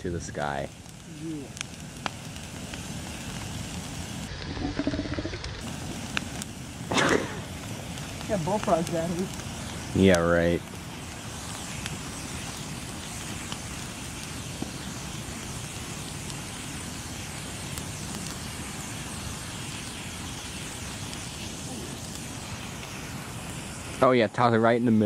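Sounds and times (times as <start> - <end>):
bonfire rushing: 0.0 - 25.0.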